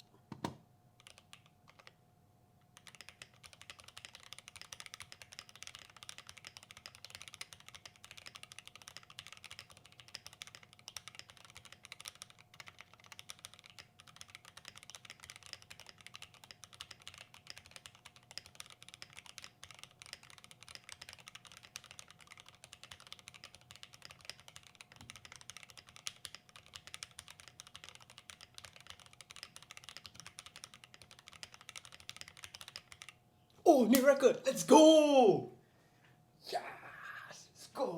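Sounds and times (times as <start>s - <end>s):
fast mechanical keyboard typing: 0.4s - 2.0s, 2.7s - 33.2s.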